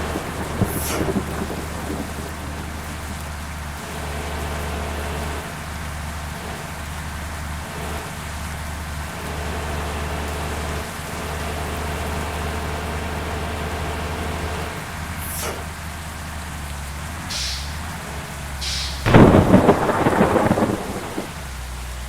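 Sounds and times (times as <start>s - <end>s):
bus engine humming: 0.0s - 22.0s
heavy rain hissing: 0.0s - 22.0s.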